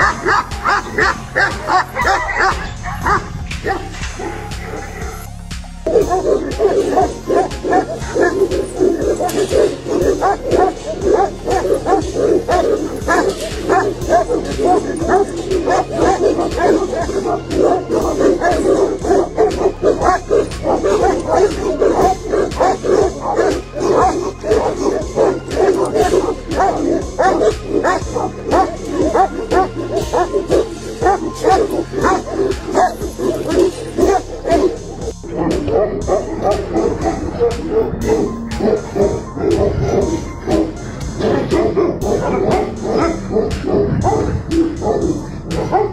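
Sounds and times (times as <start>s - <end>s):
dog barking: 0.0s - 5.3s, 5.9s - 45.9s
background music with beat: 0.0s - 45.9s.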